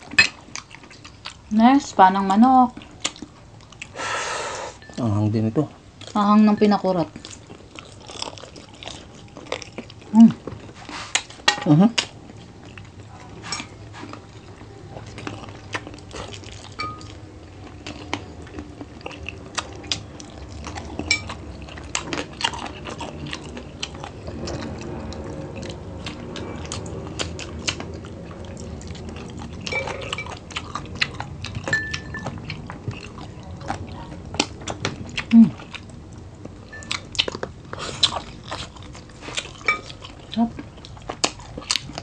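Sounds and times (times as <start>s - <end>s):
chewing and biting: 2.7s - 4.0s, 7.1s - 42.0s.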